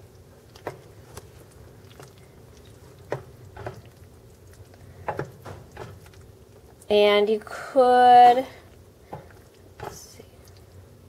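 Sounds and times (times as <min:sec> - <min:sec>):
spoon stirring wet food: 0:00.0 - 0:07.0, 0:08.2 - 0:11.0.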